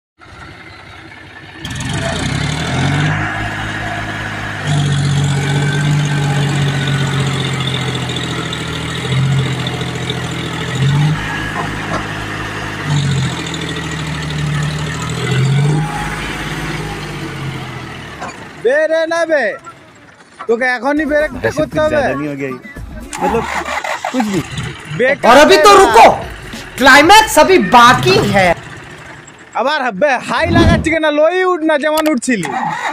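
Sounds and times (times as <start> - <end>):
tractor diesel engine running: 0.2 - 31.2.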